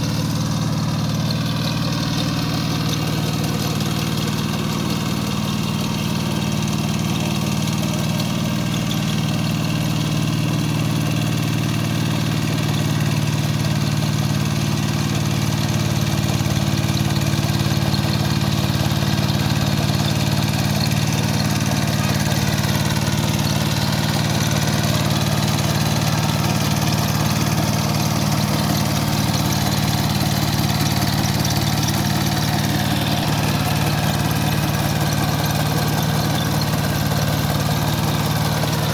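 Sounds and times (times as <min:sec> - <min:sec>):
diesel tiller engine running: 0:00.0 - 0:38.9.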